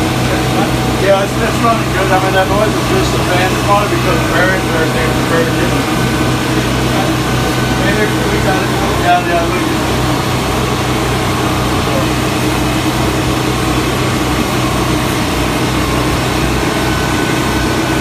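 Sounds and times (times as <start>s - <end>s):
exhaust hood fan humming: 0.0s - 18.0s.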